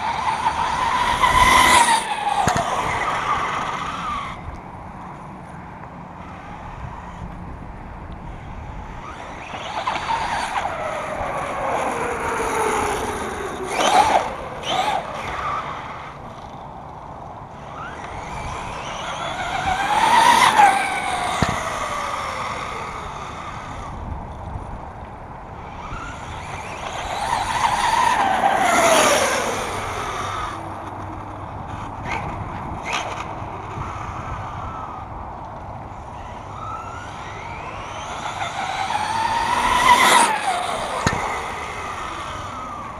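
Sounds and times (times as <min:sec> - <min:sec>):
electric motor whine passing: 0:00.0 - 0:42.9.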